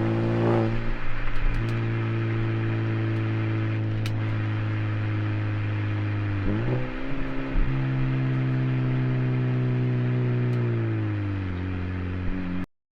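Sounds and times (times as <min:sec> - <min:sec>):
car engine exhaust note: 0:00.0 - 0:12.7.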